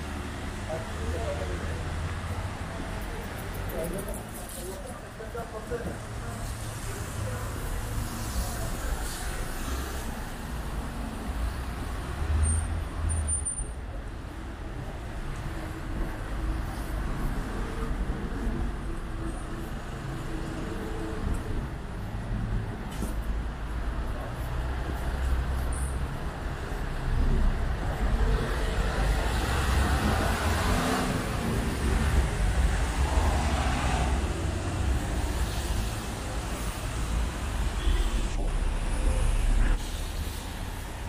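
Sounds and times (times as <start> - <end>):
vehicles passing on wet road: 0.0 - 13.1, 14.8 - 41.0
low rumble of engines: 0.0 - 41.0.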